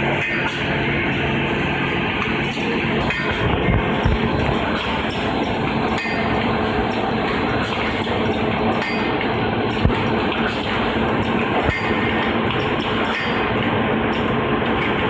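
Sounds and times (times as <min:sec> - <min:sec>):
factory machinery din: 0:00.0 - 0:15.0.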